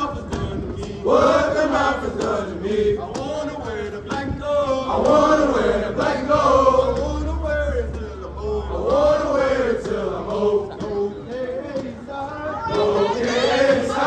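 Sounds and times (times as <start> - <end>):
group of voices chanting: 0.3 - 14.0.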